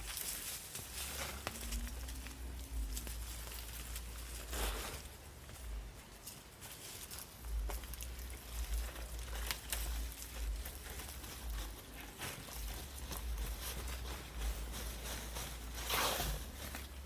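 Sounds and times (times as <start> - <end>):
low rumble on microphone: 0.0 - 6.1, 7.3 - 17.0
footsteps in a field: 0.0 - 17.0
rustling: 0.0 - 17.0.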